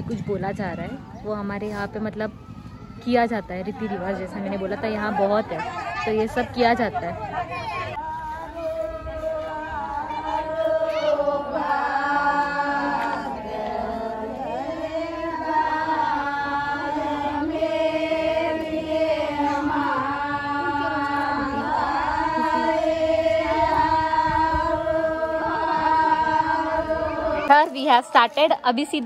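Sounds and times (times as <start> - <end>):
devotional chanting: 0.0 - 27.7.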